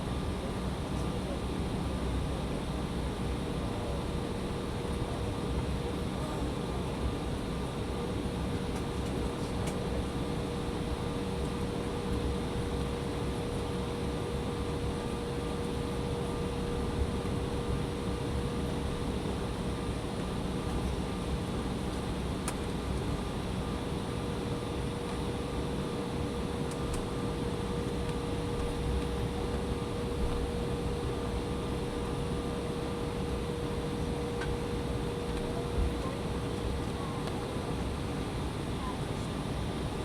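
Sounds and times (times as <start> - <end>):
air-conditioning: 0.0 - 40.0
idling jet engines hum: 0.0 - 40.0.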